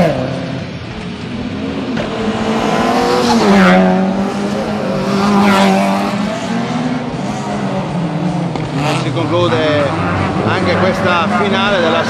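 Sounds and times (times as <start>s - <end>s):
racing car engine revving: 0.0s - 12.0s.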